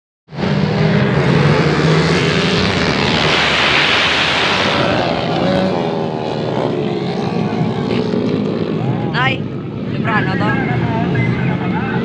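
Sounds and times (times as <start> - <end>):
dirt bikes racing: 0.3 - 12.0.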